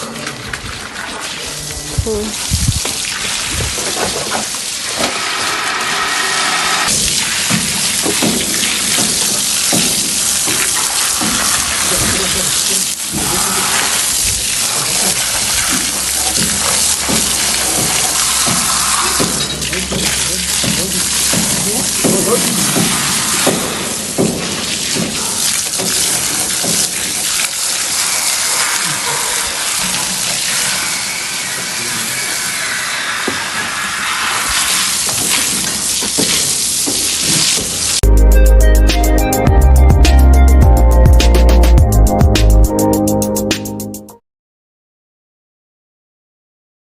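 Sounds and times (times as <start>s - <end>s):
water running and splashing: 0.0s - 38.1s.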